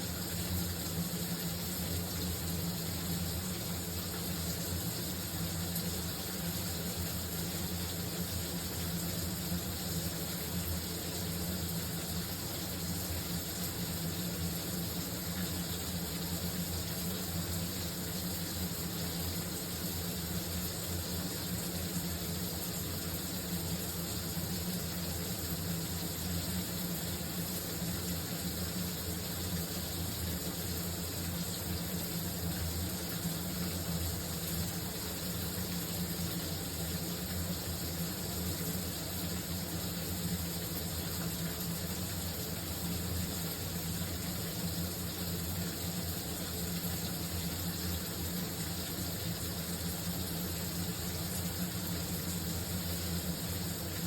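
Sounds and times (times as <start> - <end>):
shower water hissing: 0.0 - 54.0.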